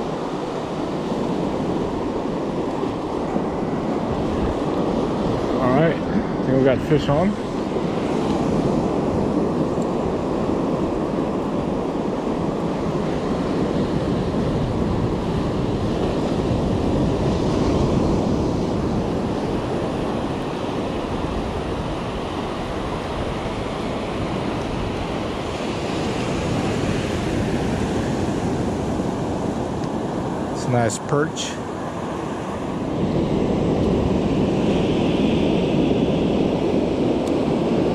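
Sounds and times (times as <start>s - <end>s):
ocean surf washing on sand: 0.0s - 37.9s
wind buffeting microphone: 0.0s - 37.9s.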